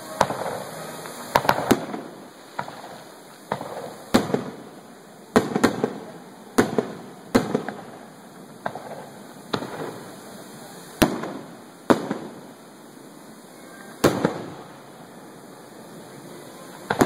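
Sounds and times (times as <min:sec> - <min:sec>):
firework shells bursting with bangs: 0:00.0 - 0:12.8, 0:13.6 - 0:15.0, 0:16.6 - 0:17.0.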